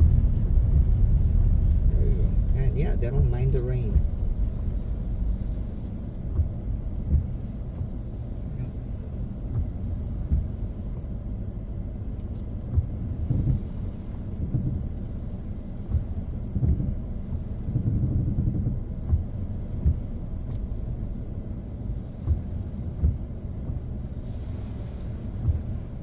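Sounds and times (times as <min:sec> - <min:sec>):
car rumble from inside: 0:00.0 - 0:26.0.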